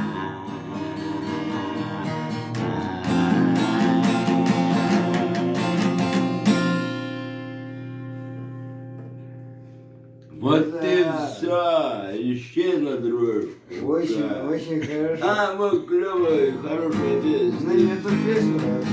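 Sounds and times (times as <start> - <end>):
acoustic guitar strumming: 0.0 - 12.0, 15.2 - 18.9.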